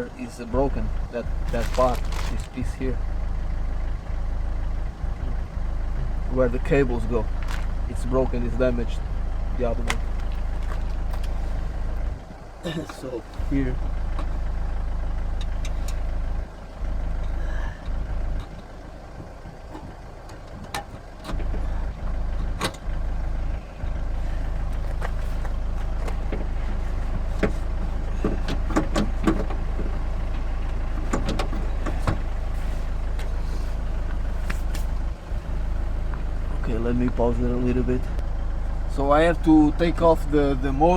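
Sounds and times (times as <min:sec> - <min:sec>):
low rumble: 0:00.5 - 0:12.6, 0:13.2 - 0:40.8.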